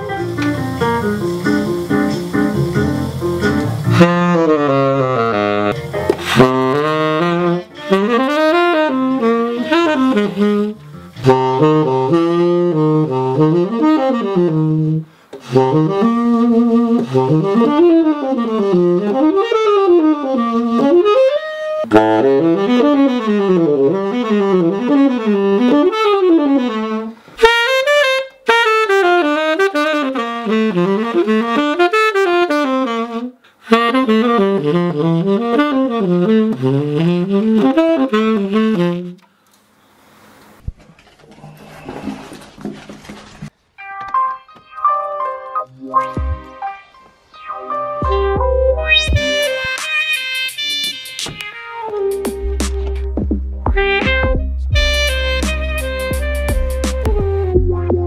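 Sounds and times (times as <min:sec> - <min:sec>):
tenor saxophone jazz runs: 0:00.0 - 0:39.4, 0:43.8 - 0:58.0.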